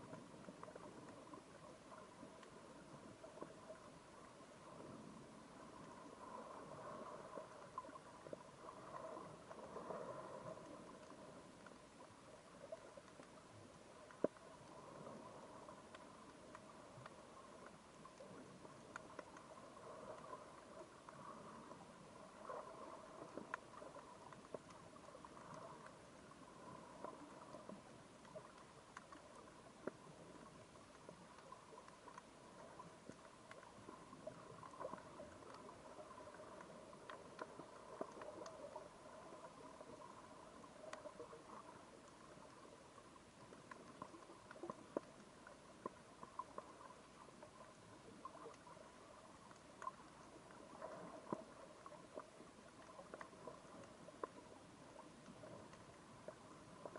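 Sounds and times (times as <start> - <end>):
faint steady hum: 0.0 - 56.9
underwater clicks and crackles: 0.0 - 56.9.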